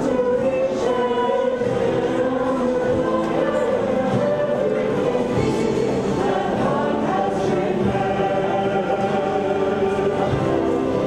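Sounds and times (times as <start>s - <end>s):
choir singing a hymn: 0.0s - 11.0s.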